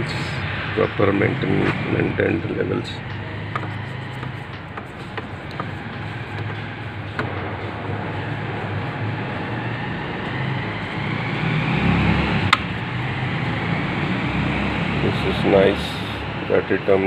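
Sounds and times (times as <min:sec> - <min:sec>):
faint rising whine: 0:00.0 - 0:16.9
traffic noise: 0:00.0 - 0:17.0.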